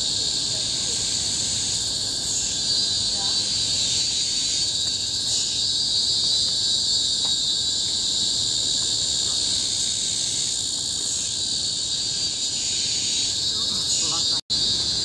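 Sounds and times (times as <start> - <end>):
cicadas shrilling: 0.0 - 15.0.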